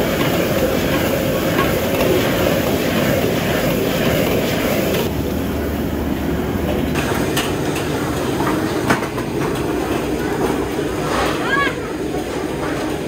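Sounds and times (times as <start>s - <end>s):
wok burner roaring: 0.0s - 13.0s.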